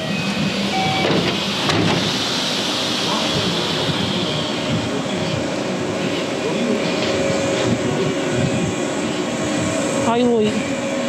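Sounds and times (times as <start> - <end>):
stopped electric train hissing: 0.0 - 11.0.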